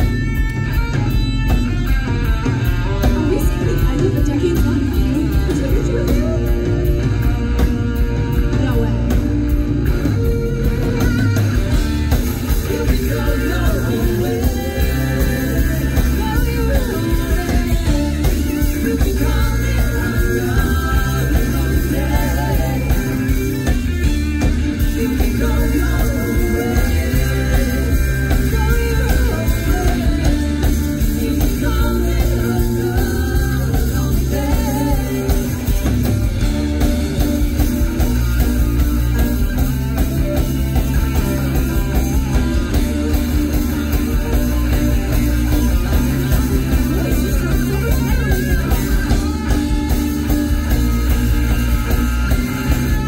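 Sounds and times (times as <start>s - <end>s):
bass guitar: 0.0s - 53.0s
drum kit: 0.0s - 53.0s
electric guitar: 0.0s - 53.0s
person singing: 2.5s - 9.2s, 12.2s - 36.6s, 40.8s - 53.0s.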